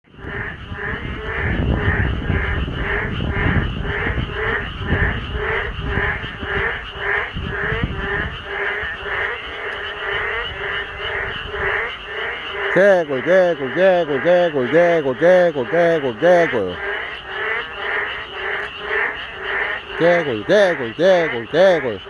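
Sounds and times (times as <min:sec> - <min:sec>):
frogs croaking in chorus: 0:00.1 - 0:22.0.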